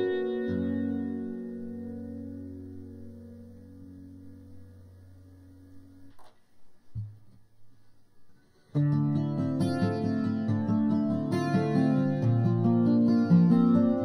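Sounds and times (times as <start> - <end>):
guitar music: 0.0 - 6.2, 8.6 - 14.0
faint low hum: 0.0 - 14.0.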